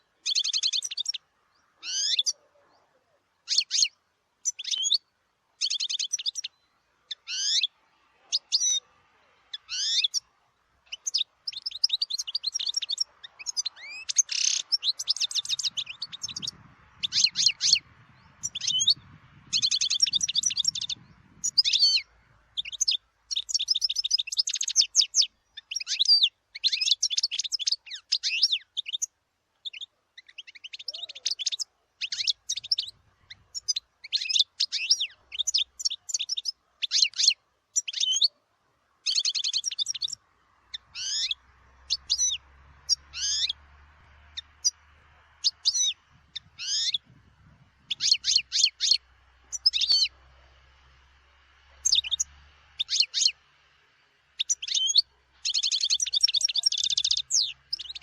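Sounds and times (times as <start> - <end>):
finch twittering and trilling: 0.0 - 5.0, 5.6 - 8.9, 9.5 - 38.3, 39.0 - 50.5, 51.6 - 53.4, 54.3 - 58.0.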